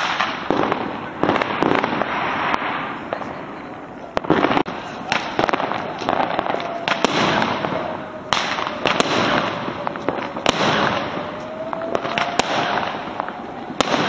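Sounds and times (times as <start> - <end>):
firework shells bursting: 0.0 - 14.0
fireworks crackling: 0.0 - 14.0.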